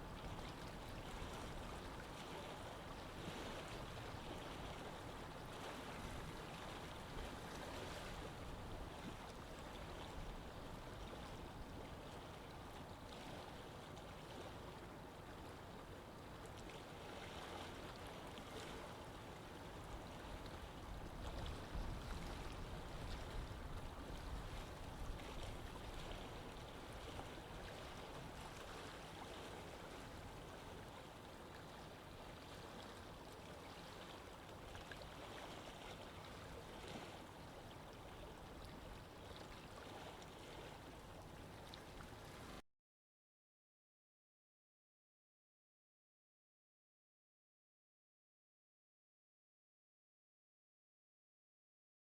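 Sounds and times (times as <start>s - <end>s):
water rushing in a canal: 0.0s - 42.6s.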